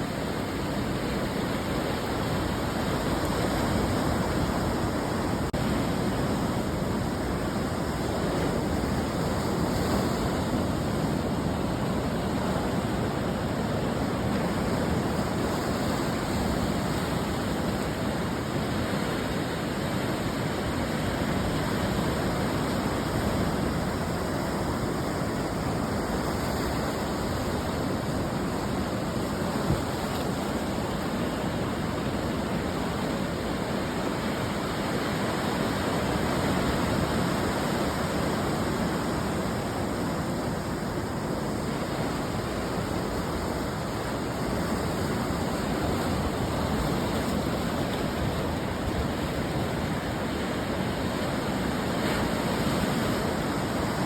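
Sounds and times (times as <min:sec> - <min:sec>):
ocean surf breaking on shore: 0:00.0 - 0:54.0.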